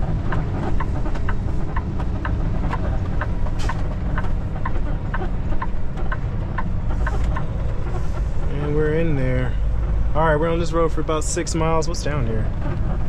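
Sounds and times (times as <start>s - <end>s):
diesel engine low rumble: 0.0s - 13.0s
turn signal ticking: 0.0s - 13.0s.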